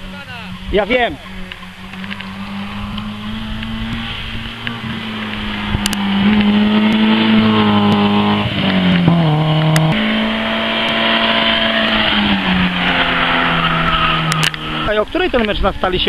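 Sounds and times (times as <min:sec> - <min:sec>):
rally car engine driving past: 0:00.0 - 0:15.2.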